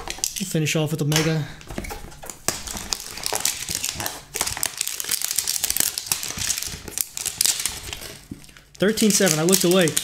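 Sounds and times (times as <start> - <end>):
plastic wrap tearing and crinkling: 1.9 - 10.0.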